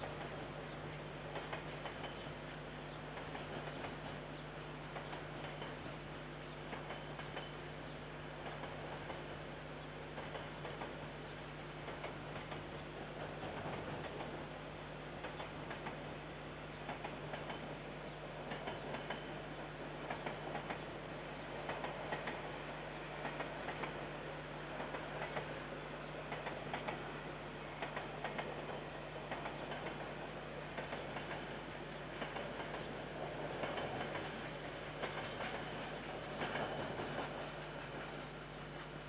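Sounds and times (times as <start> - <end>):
steady low hum: 0.0 - 39.0
wheels clicking over rail joints: 0.0 - 39.0.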